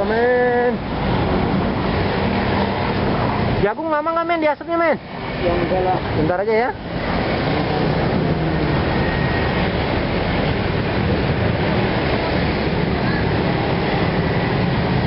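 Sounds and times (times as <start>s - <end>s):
passing vehicles rumbling: 0.0s - 15.0s.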